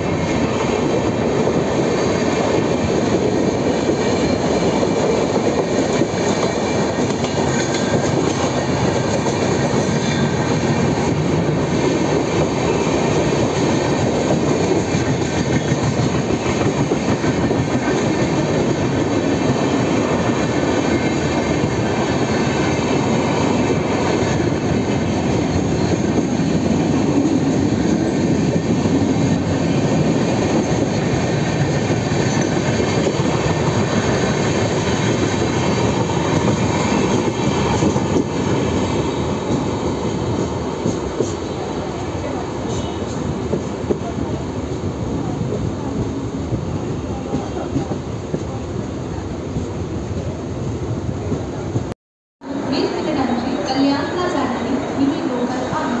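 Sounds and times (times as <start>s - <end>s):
trains running on rails: 0.0s - 56.0s.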